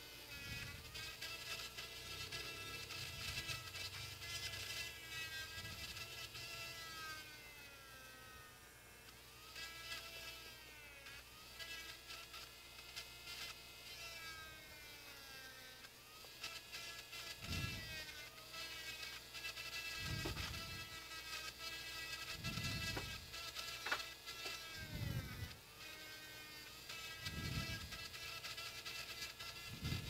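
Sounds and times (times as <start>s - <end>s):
electric drill whirring: 0.0s - 30.0s.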